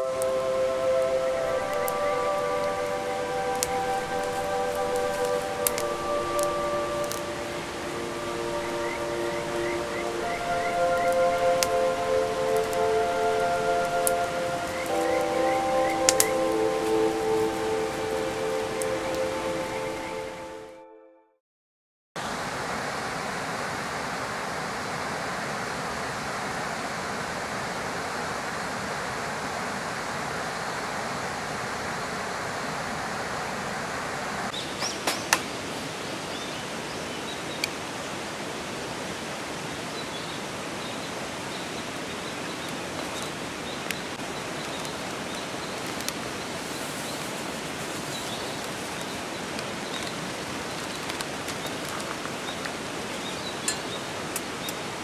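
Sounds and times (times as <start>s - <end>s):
rushing water: 0.0s - 20.6s, 22.2s - 55.0s.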